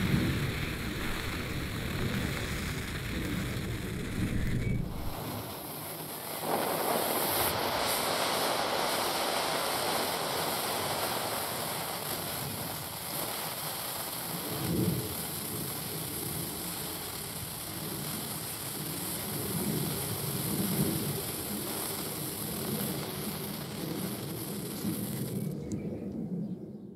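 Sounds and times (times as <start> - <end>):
firework hissing: 0.0 - 25.7.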